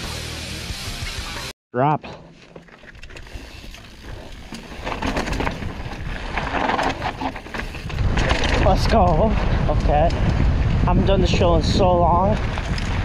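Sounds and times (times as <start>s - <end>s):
bike clicking and rattling: 2.1s - 13.0s
bike tyres on loose dirt: 2.4s - 13.0s.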